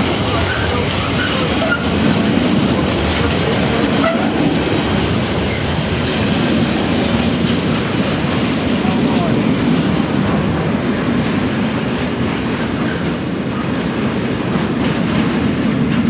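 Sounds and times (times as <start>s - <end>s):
freight wagon wheels on rails: 0.0s - 16.0s.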